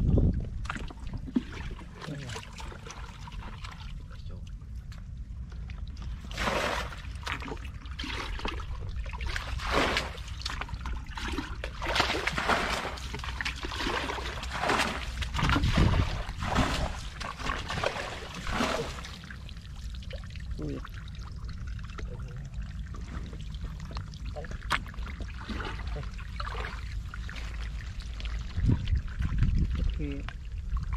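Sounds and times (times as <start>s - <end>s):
steady low rumble: 0.0s - 30.9s
bucket scooping and splashing water: 0.5s - 4.2s, 5.6s - 30.9s.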